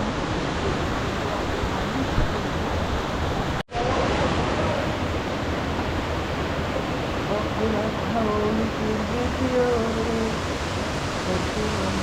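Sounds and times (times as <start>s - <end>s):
rushing water roar: 0.0s - 12.0s.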